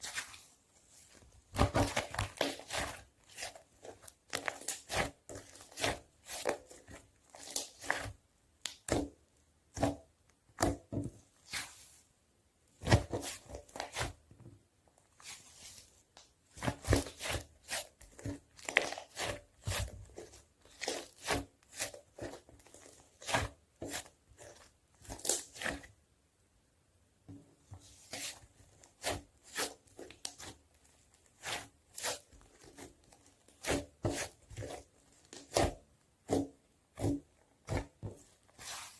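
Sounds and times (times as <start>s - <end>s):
hands squishing slime: 0.0s - 12.0s, 12.7s - 14.3s, 15.1s - 26.0s, 27.9s - 38.9s.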